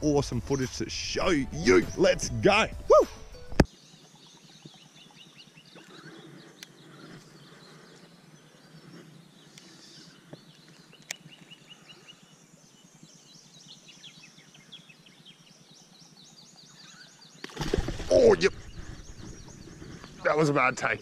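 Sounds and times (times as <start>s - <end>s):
faint birdsong trills: 0.1s - 21.0s.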